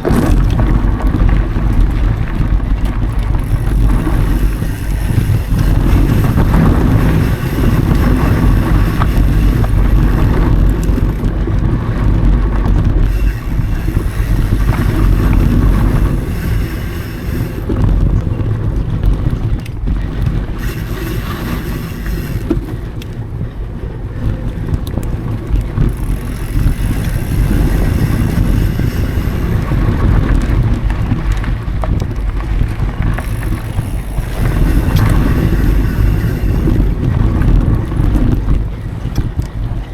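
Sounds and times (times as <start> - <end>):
bike tyre and frame noise: 0.0 - 39.9
wind on microphone: 0.0 - 39.9.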